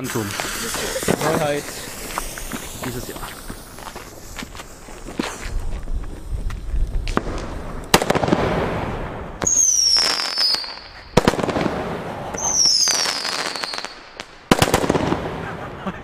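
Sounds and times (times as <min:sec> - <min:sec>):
falling firework whistles: 0:00.0 - 0:11.6, 0:12.3 - 0:15.4
firework shots crackling: 0:00.0 - 0:15.8
firework fountain hissing: 0:00.0 - 0:16.0.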